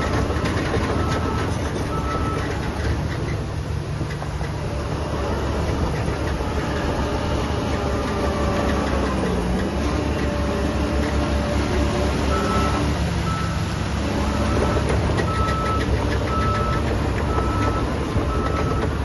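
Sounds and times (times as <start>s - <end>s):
diesel machinery rumbling: 0.0s - 19.0s.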